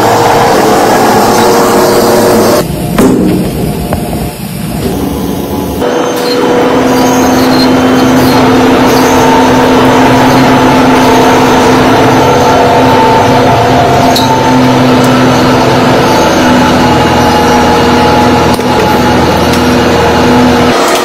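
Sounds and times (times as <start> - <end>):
heavy machinery humming: 0.0 - 21.0.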